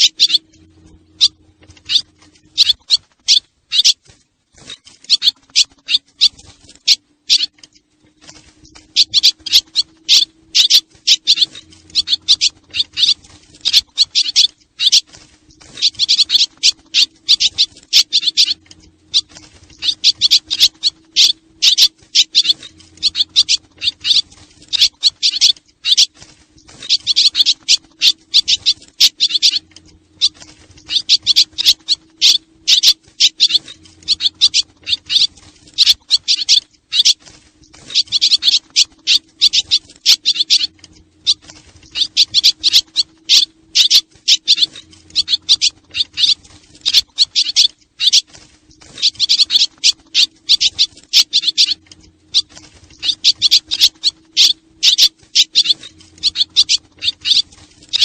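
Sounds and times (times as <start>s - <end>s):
faint steady hum: 0.0s - 58.0s
swallows twittering: 0.0s - 58.0s.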